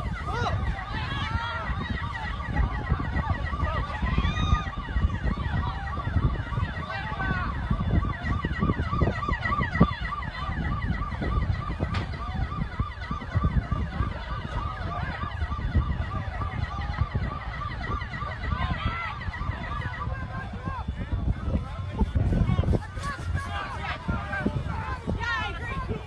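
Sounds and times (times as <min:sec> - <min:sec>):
emergency vehicle sirens wailing: 0:00.0 - 0:26.0.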